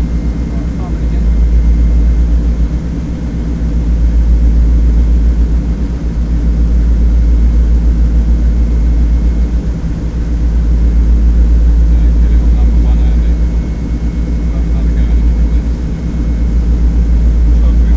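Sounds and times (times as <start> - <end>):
piston aircraft engines droning: 0.0 - 17.9.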